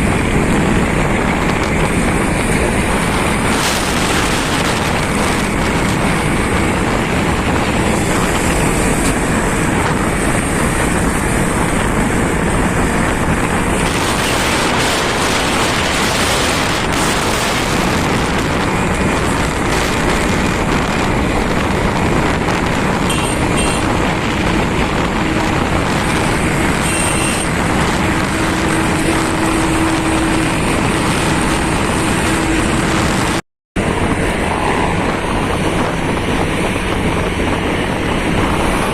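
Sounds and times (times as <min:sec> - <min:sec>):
motorcycle wind and road noise: 0:00.0 - 0:38.9.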